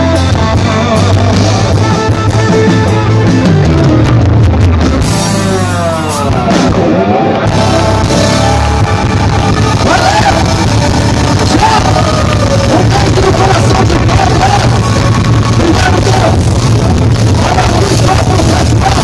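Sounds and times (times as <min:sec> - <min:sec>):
guitar lead line sliding: 0:00.0 - 0:19.0
live rock band: 0:00.0 - 0:19.0.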